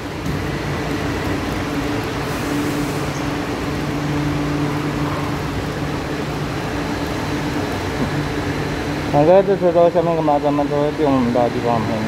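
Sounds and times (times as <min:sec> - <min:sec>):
metro train humming: 0:00.0 - 0:12.0.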